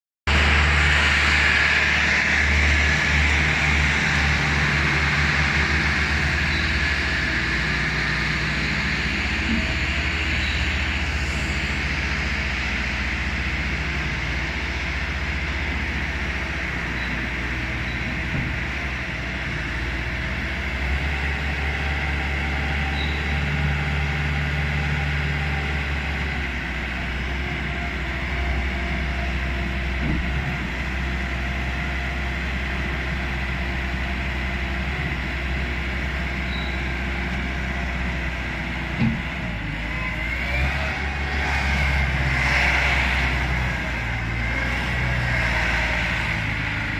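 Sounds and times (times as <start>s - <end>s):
loader engine running: 0.3s - 46.9s.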